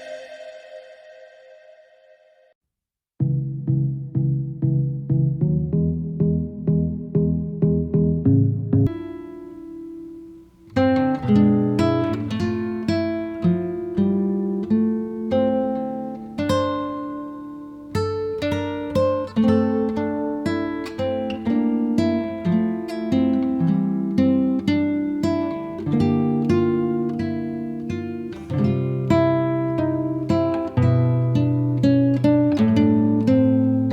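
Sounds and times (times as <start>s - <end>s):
acoustic guitar strumming chords: 0.0s - 2.4s, 8.9s - 33.9s.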